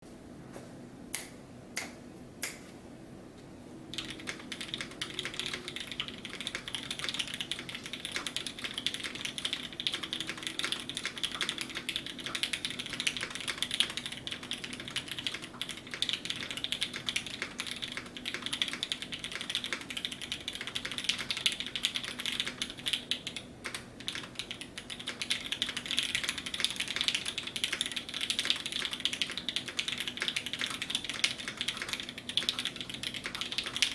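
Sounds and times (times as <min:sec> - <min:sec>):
typing on mechanical keyboard: 0:03.9 - 0:33.9.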